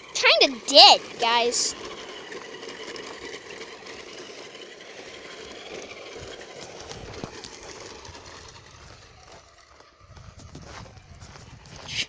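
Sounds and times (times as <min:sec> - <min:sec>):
tyres rolling on ground: 0:00.0 - 0:11.9
electric motor whirring: 0:00.0 - 0:12.0.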